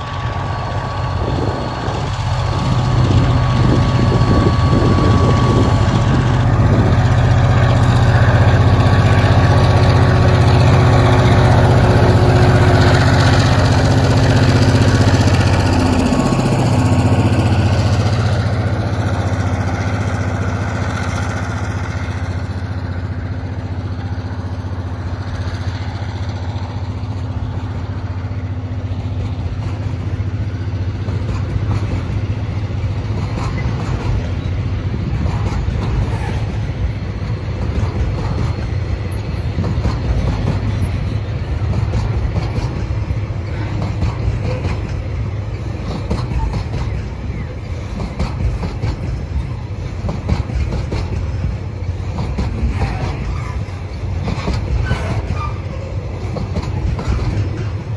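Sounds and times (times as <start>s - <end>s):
diesel locomotives passing: 0.0s - 57.9s
wagons rumbling and wheels clattering: 0.0s - 57.9s.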